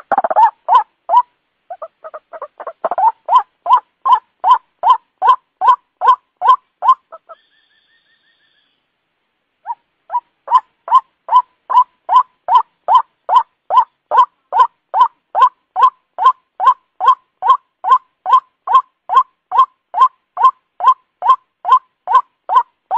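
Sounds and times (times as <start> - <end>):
waterhen calling: 0.0 - 8.8, 9.6 - 22.8.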